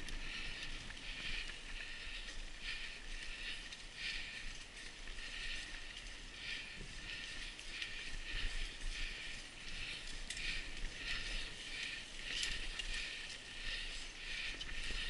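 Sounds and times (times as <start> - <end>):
mountain bike rolling on dirt trail: 0.0 - 15.0
rhythmic bike rattle: 0.0 - 15.0.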